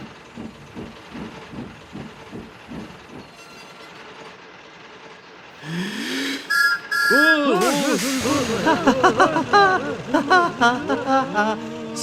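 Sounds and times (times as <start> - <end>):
train wheels rhythmic clatter: 0.0 - 5.6, 6.4 - 12.0.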